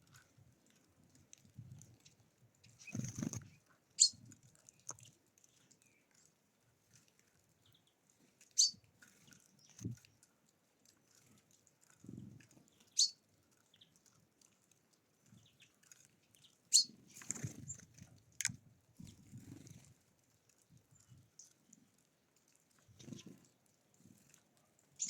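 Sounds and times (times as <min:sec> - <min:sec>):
small birds chirping: 0:00.7 - 0:10.3, 0:11.1 - 0:14.5, 0:15.1 - 0:22.0, 0:22.6 - 0:25.0.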